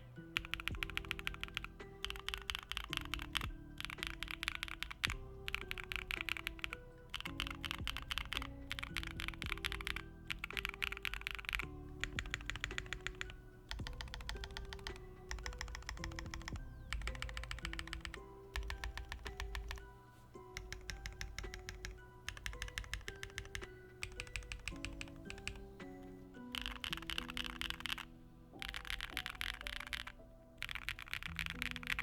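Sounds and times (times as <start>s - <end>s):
background music: 0.0s - 32.0s
fast typing on mechanical keyboard: 0.0s - 32.0s.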